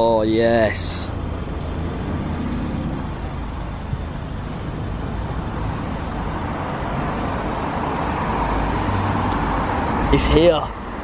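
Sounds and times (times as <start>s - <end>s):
car engine running at low revs: 0.5s - 10.8s.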